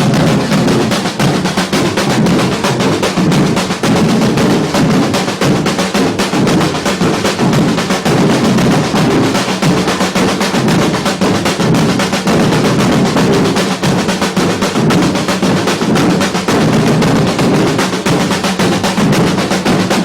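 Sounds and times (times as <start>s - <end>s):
percussion ensemble drumming: 0.0s - 20.0s.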